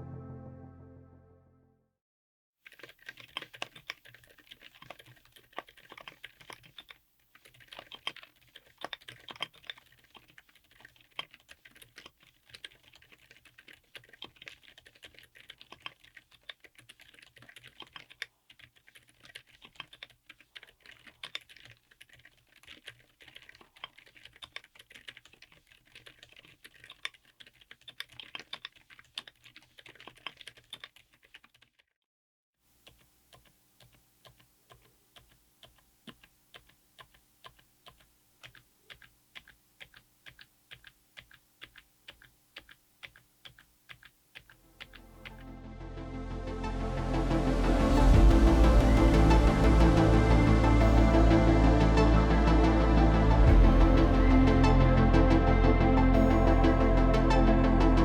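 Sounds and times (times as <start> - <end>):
muted mechanical keyboard typing: 2.7 - 31.8, 32.8 - 45.4, 47.7 - 58.0.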